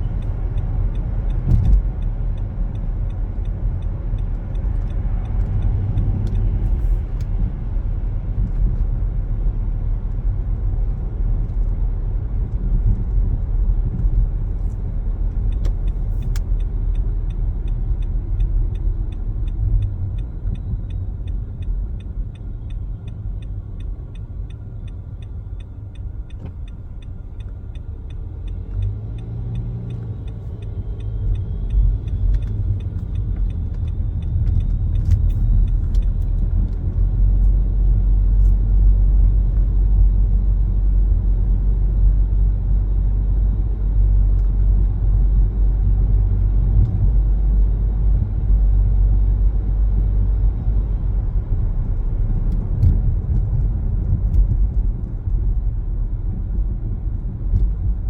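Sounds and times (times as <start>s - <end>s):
car road and engine rumble: 0.0s - 58.0s
turn signal ticking: 0.0s - 58.0s.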